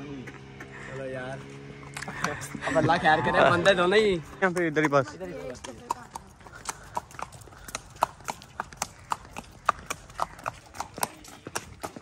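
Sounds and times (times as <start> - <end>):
horse hooves on brick: 1.6 - 12.0.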